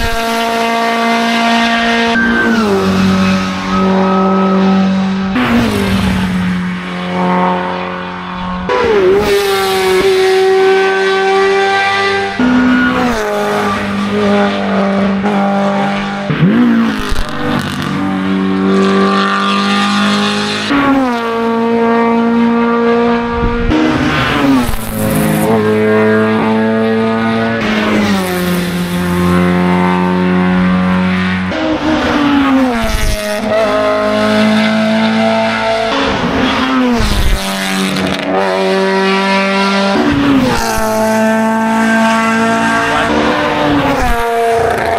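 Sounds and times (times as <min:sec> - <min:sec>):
race car engines at high revs: 0:00.0 - 0:44.9.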